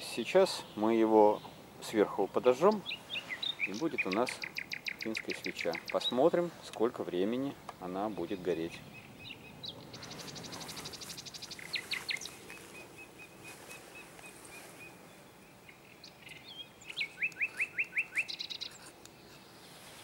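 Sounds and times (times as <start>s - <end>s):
songbirds singing: 0.0s - 20.0s.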